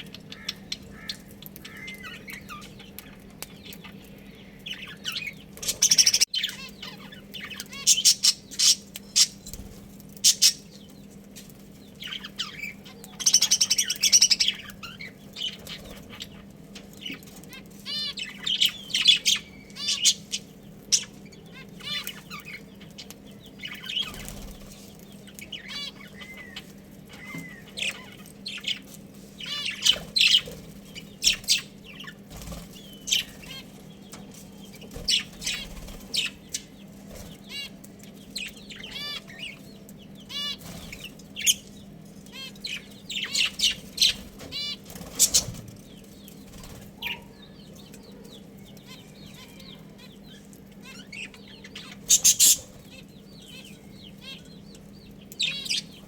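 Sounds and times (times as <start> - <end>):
budgerigars chirping: 0.0 - 9.6, 10.2 - 11.0, 11.9 - 56.0.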